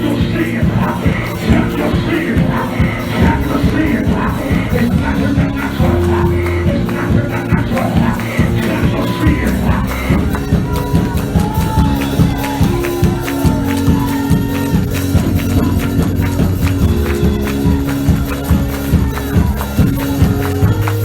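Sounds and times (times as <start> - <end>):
church band playing: 0.0 - 21.0
drums and tambourine beat: 0.0 - 21.0.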